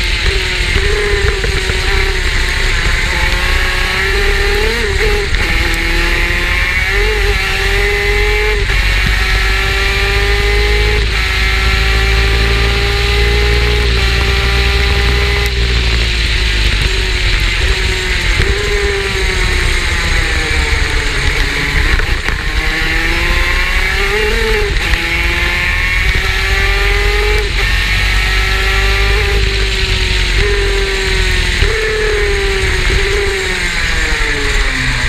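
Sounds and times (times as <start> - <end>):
deep rumble: 0.0 - 35.0
two-stroke kart engine revving: 0.0 - 35.0.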